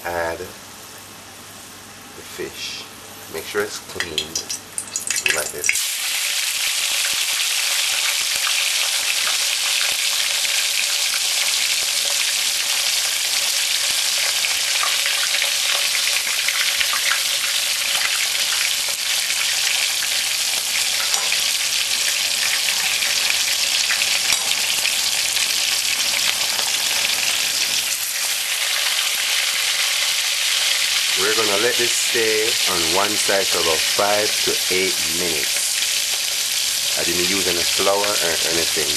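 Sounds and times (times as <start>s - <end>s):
fish sizzling in hot oil: 4.2s - 38.9s.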